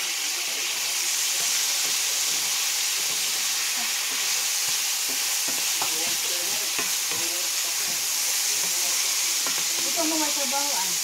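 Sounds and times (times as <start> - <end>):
food sizzling in a pan: 0.0 - 11.0
wooden spatula scraping a pan: 1.2 - 10.6.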